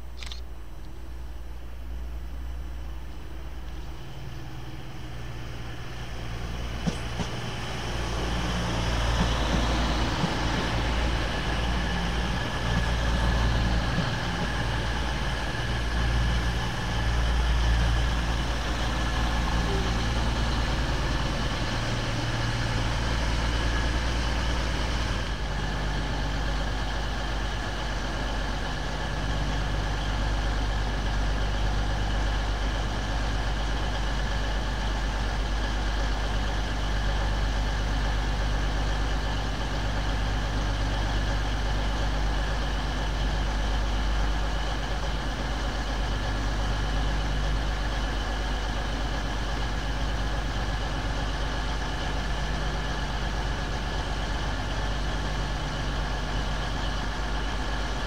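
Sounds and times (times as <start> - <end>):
diesel train engine rumbling: 0.0 - 58.0.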